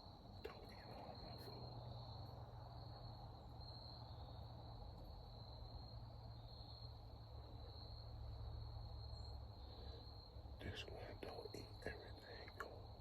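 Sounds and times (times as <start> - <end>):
low steady hum: 0.0 - 5.6, 7.2 - 13.0
insects trilling: 0.0 - 13.0.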